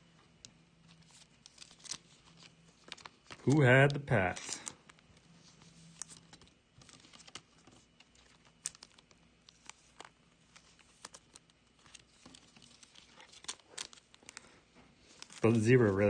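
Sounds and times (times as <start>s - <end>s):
plastic card sleeve crinkling: 0.2s - 16.0s.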